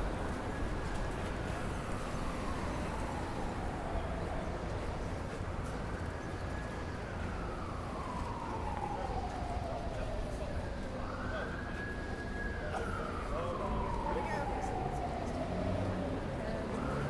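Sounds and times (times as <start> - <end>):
distant siren wailing: 0.0 - 17.0
low hum of city traffic: 0.0 - 17.0.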